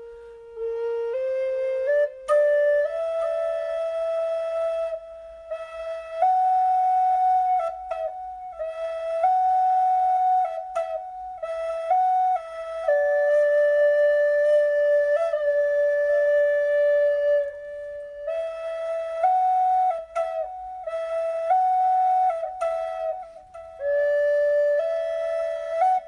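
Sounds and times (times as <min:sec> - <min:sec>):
solo flute melody: 0:00.0 - 0:26.0.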